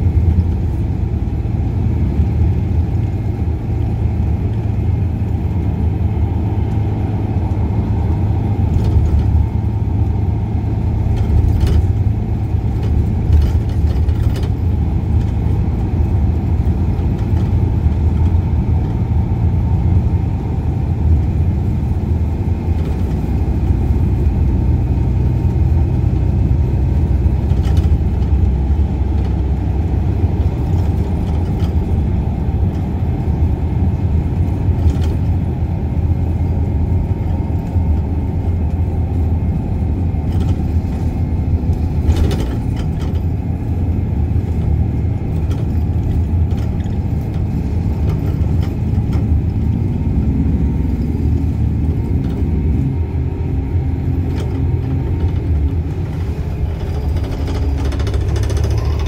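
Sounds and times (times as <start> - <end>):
bus engine and road drone: 0.0 - 59.0
bus fittings rattling: 7.4 - 59.0.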